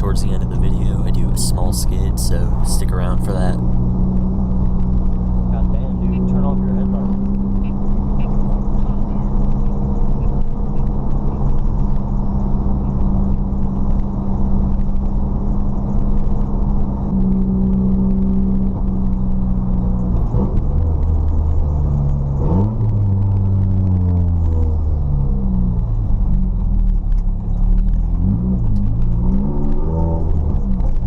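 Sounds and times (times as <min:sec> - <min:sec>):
turbocharged engine running: 0:00.0 - 0:31.0.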